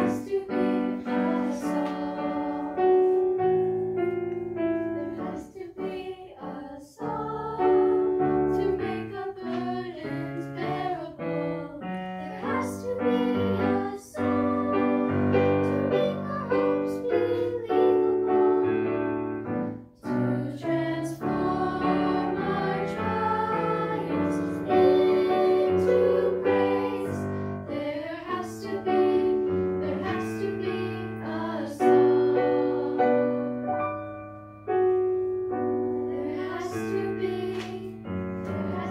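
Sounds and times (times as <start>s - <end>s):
girls singing in harmony: 0.0s - 33.8s, 35.9s - 38.9s
digital piano accompaniment: 0.0s - 38.9s.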